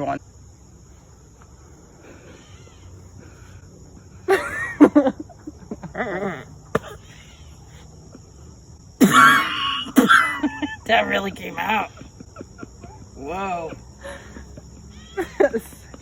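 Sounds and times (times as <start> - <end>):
insect trilling: 0.0 - 16.0.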